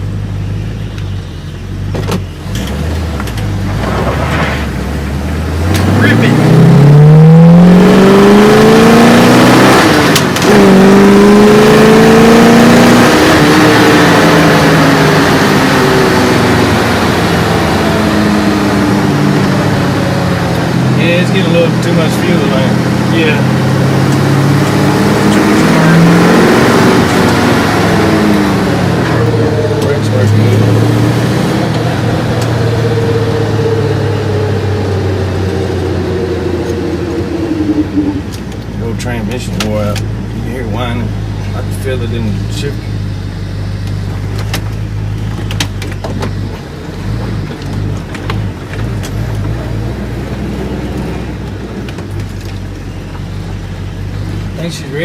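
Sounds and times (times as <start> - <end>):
car engine accelerating: 0.0 - 55.0
transmission whine: 5.4 - 55.0.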